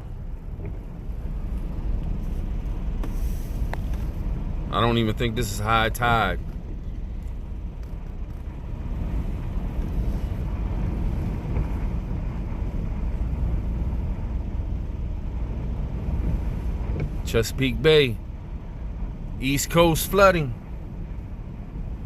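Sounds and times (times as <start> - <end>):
low rumble inside vehicle: 0.0 - 22.0.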